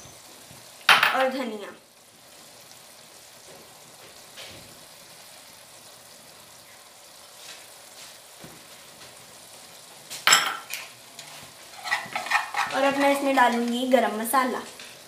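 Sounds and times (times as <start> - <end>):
food simmering with bubbling hiss: 0.0 - 15.0.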